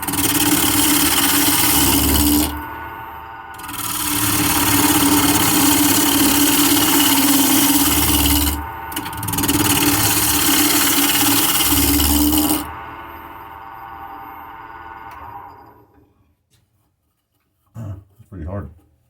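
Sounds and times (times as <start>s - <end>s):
gouge cutting wood on lathe: 0.0s - 15.5s
lathe running: 0.0s - 15.9s.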